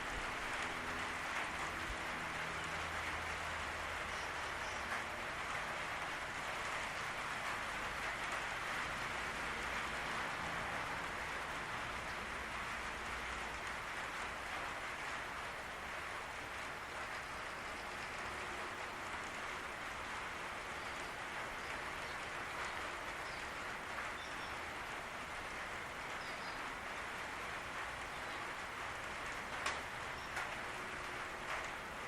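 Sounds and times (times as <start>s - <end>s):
rain on a roof: 0.0s - 32.0s.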